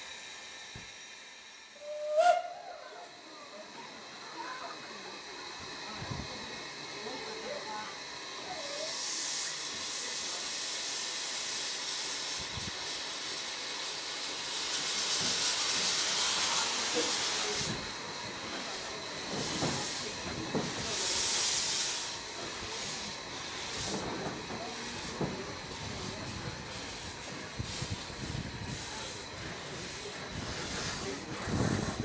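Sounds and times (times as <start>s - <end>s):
steam locomotive hissing steam: 0.0s - 32.0s.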